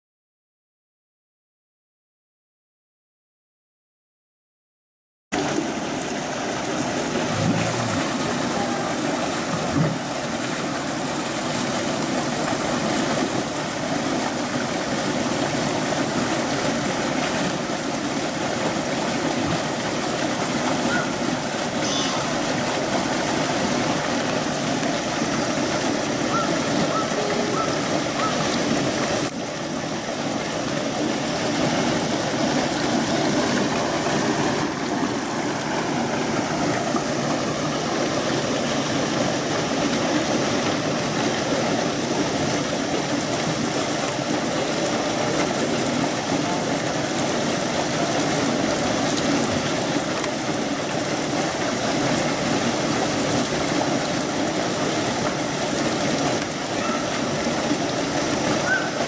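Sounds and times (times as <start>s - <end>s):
flowing water rushing: 5.4s - 59.0s.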